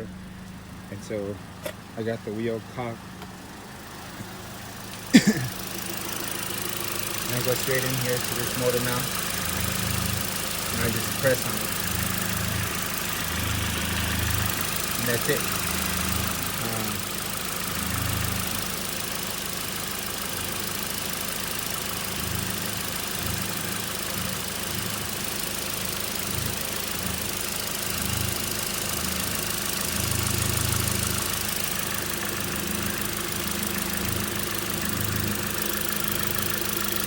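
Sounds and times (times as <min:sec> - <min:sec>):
car engine idling with chatter: 0:00.0 - 0:37.0.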